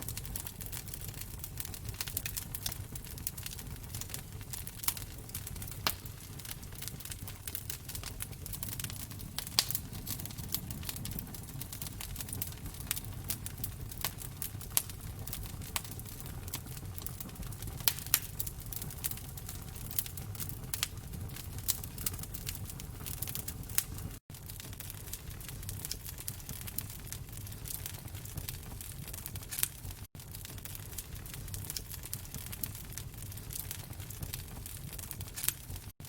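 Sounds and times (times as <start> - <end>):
low rumble of flames: 0.0 - 36.0
wood fire crackling and popping: 0.0 - 36.0.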